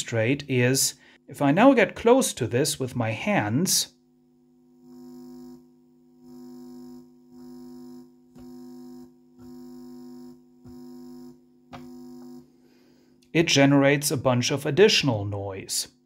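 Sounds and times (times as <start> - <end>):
amplifier mains hum and buzz: 0.0 - 16.0.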